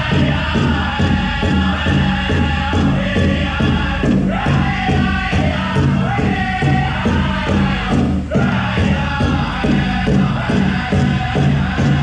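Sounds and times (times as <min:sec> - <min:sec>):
drum beating evenly: 0:00.0 - 0:12.0
group of voices chanting: 0:00.0 - 0:12.0.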